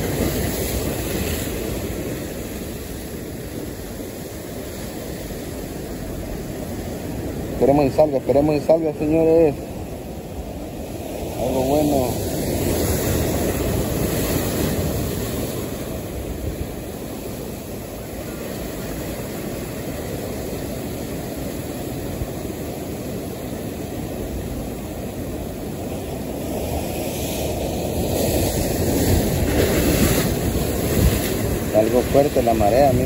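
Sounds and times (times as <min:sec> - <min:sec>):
ocean waves breaking on rocks: 0:00.0 - 0:33.0.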